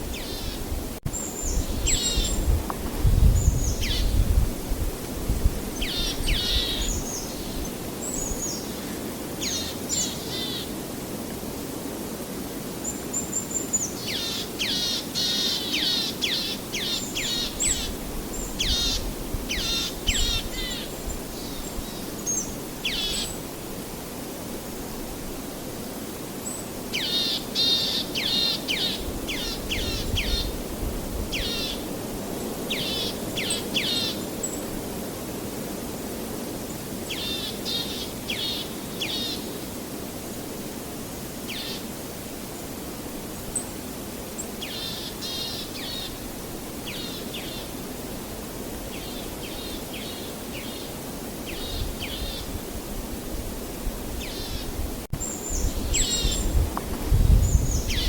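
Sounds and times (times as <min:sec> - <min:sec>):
rushing natural ambience: 0:00.0 - 0:58.0.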